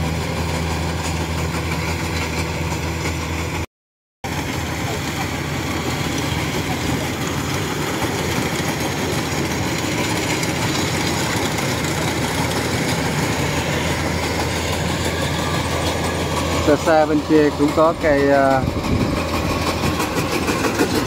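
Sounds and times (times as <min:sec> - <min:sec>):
combine harvester engine hum: 0:00.0 - 0:03.6, 0:04.2 - 0:21.0
machinery clatter: 0:00.0 - 0:03.6, 0:04.3 - 0:21.0.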